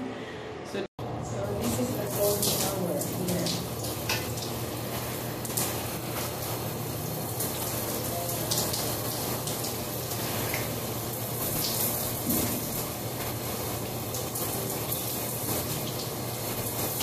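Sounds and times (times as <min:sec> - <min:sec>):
shower spray splashing: 0:01.6 - 0:17.0.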